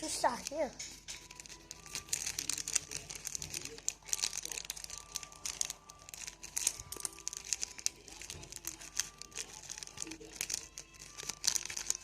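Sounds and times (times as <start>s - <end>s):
plastic wrapper crinkling and tearing: 0.0s - 12.0s.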